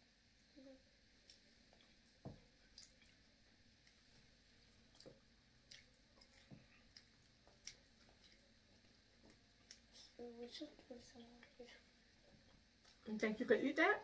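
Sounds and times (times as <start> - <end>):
faint chewing: 0.5 - 13.1.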